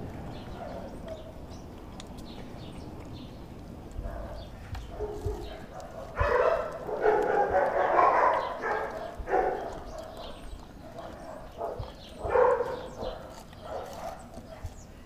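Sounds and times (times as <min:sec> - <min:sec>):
dog chewing and crunching food: 0:00.0 - 0:15.0.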